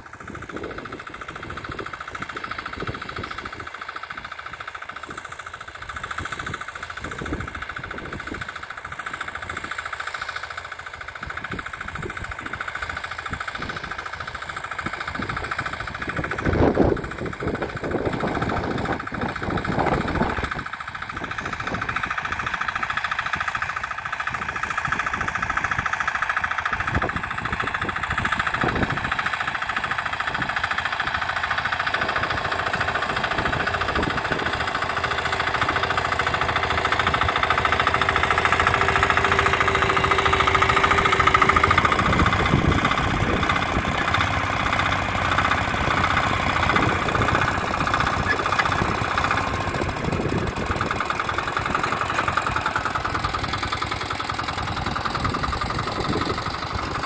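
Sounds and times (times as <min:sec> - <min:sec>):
walk-behind tractor engine under load: 0:00.0 - 0:57.0.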